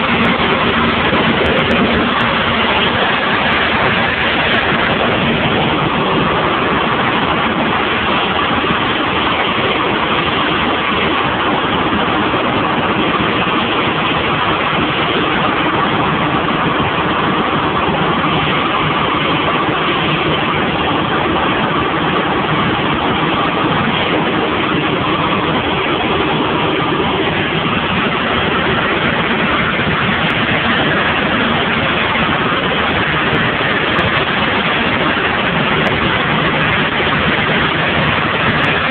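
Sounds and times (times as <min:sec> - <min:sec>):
light aircraft engine drone in cabin: 0:00.0 - 0:38.9.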